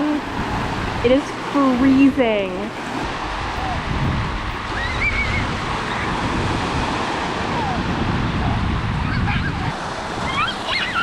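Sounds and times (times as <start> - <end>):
waves washing onto shore: 0.0 - 11.0
wind buffeting microphone: 0.0 - 11.0.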